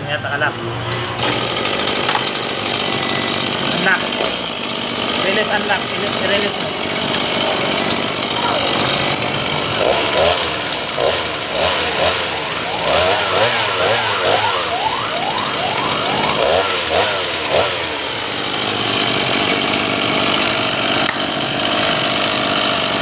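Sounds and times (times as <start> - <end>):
chainsaw revving: 1.0 - 23.0.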